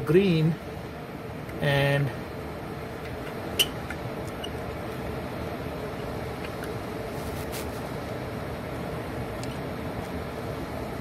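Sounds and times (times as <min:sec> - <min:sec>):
furnace blower fan running: 0:00.0 - 0:11.0.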